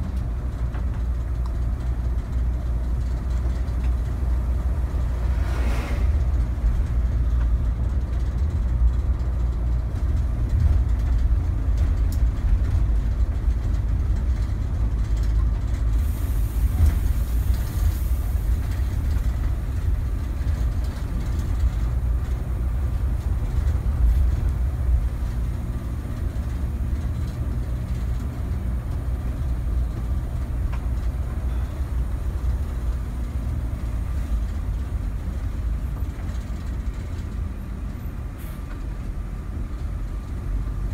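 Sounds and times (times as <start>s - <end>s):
bus cabin engine and road rumble: 0.0s - 40.9s.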